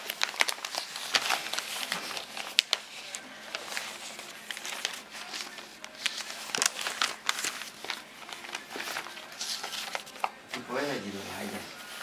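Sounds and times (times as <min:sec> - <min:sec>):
newspaper crinkling: 0:00.0 - 0:12.0.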